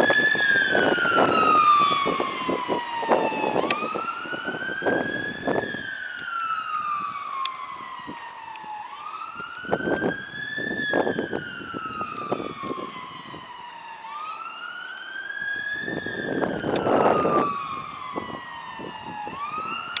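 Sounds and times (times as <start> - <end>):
vehicle engine and road noise: 0.0 - 13.4, 15.6 - 20.0
fire engine siren wailing: 0.0 - 20.0.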